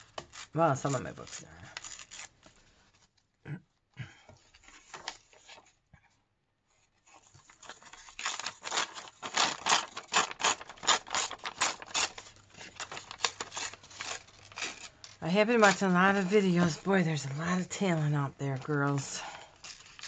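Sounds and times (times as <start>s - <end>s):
paper pages rustling and crinkling: 0.0s - 3.3s, 4.4s - 20.0s.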